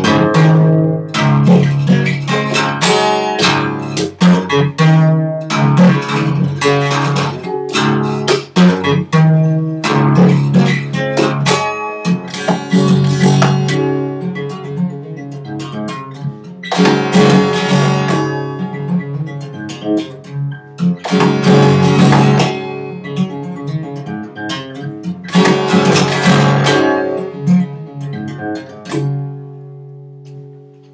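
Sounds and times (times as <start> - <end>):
acoustic guitar: 0.0 - 30.9.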